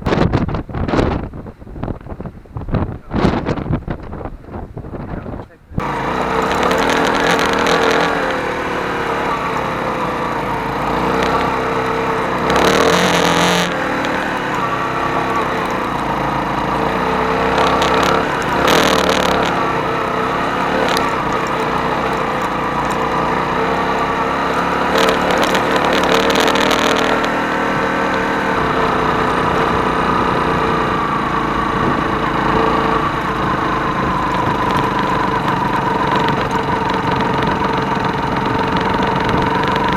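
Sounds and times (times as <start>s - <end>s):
motorcycle engine running: 0.0s - 39.9s
rushes of noise: 0.0s - 39.9s.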